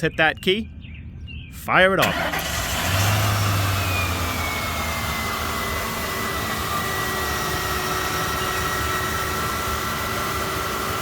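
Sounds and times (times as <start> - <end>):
car engine fast idle: 2.0 - 11.0
high engine whine: 2.0 - 11.0.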